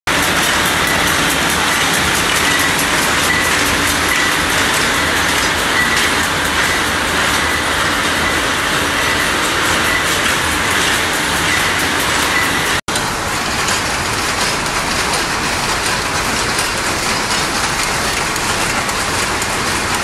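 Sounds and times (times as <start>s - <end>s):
machines clattering: 0.1s - 20.0s.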